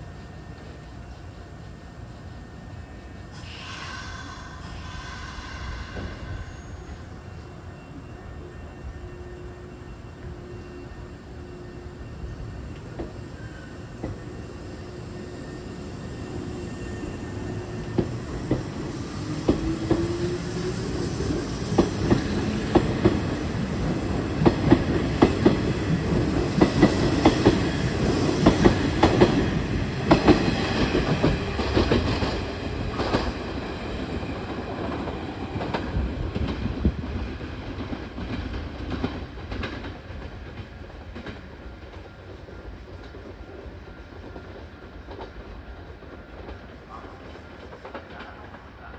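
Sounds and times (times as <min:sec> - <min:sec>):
electric train accelerating past: 0:00.0 - 0:48.9.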